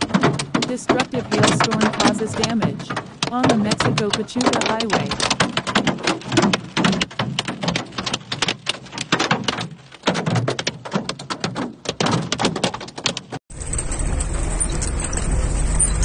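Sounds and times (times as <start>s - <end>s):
hail hammering on a car: 0.0s - 2.1s, 2.8s - 14.2s.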